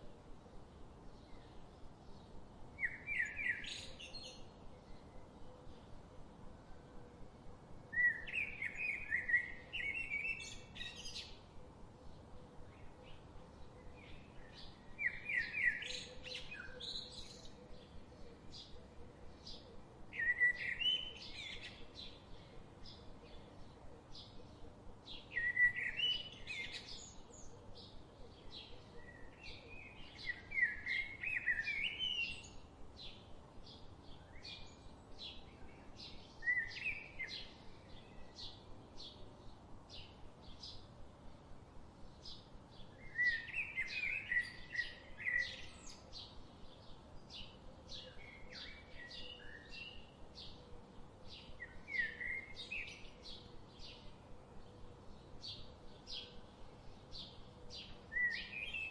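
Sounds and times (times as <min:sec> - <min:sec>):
background hiss: 0:00.0 - 0:58.9
songbird warbled song: 0:00.0 - 0:58.9.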